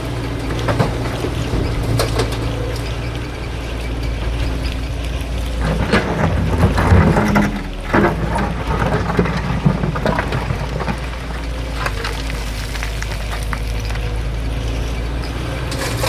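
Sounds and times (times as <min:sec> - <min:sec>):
diesel machinery engine hum: 0:00.0 - 0:16.0
metal and stone clanking: 0:00.2 - 0:14.2, 0:15.2 - 0:16.0.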